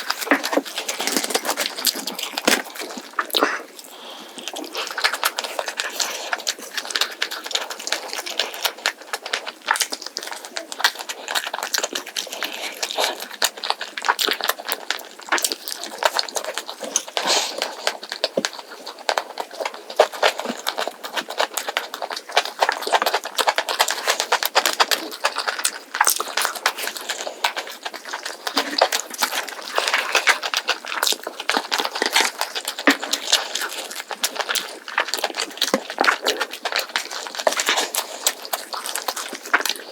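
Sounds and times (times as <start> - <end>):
crunchy chewing: 0.0 - 39.9
wet mouth sounds: 0.0 - 39.9.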